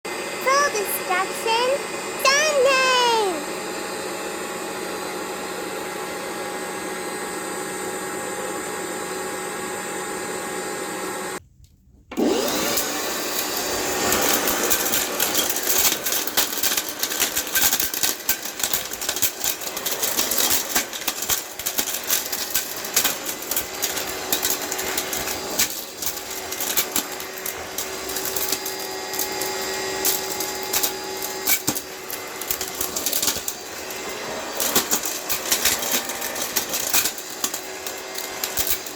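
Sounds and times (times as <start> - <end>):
vacuum cleaner motor running: 0.1 - 11.4, 12.1 - 38.9.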